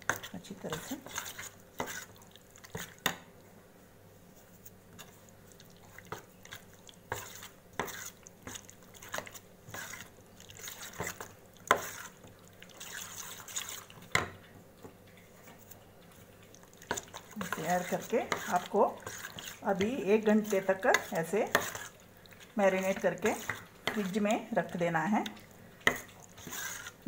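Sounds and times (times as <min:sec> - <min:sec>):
spoon mixing thick paste: 0:00.0 - 0:03.2, 0:04.4 - 0:27.0.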